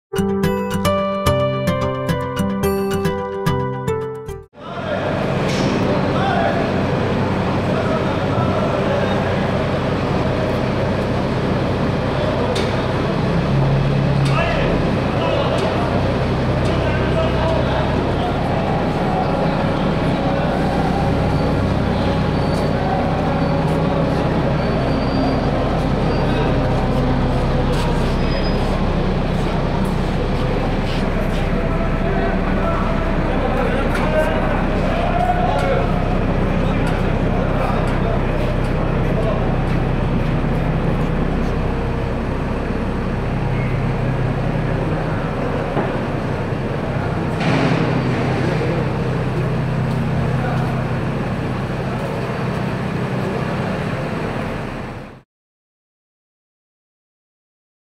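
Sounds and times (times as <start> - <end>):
locomotive engine humming: 0.2 - 55.2
machinery drone: 4.6 - 55.2.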